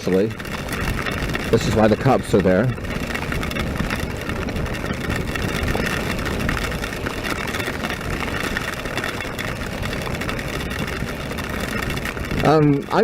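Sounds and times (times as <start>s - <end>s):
motorcycle engine running: 0.0s - 13.0s
rain on a wet road: 0.0s - 13.0s.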